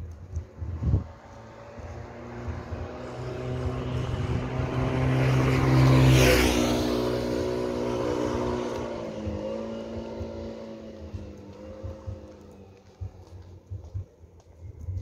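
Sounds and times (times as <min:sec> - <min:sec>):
small motorbike passing by: 0:00.3 - 0:13.7.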